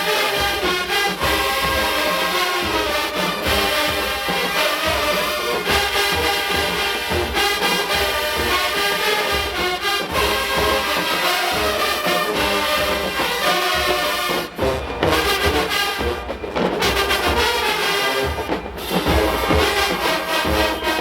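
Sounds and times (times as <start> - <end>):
brass section playing tune: 0.0 - 21.0
driving drum beat: 0.0 - 21.0.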